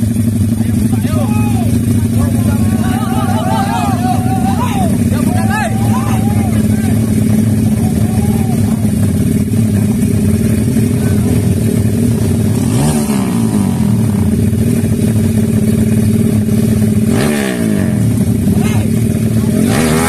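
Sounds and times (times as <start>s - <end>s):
motorcycle engines idling loudly: 0.0s - 20.0s.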